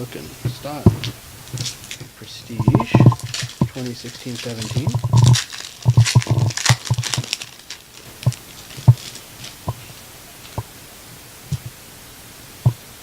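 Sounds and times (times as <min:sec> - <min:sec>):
trading cards rustling: 0:00.0 - 0:10.6.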